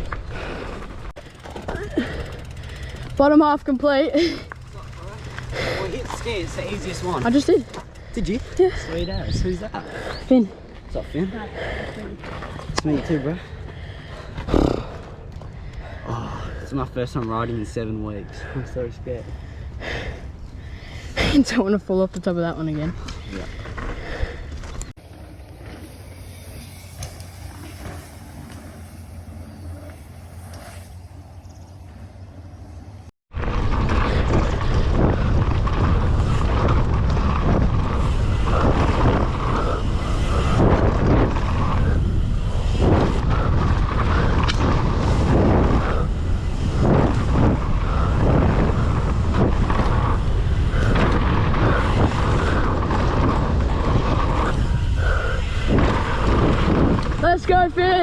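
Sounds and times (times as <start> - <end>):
bike tyres rumbling over dirt: 0.0 - 15.3, 22.9 - 31.7, 33.3 - 58.0
wind buffeting microphone: 1.9 - 25.2, 33.3 - 58.0.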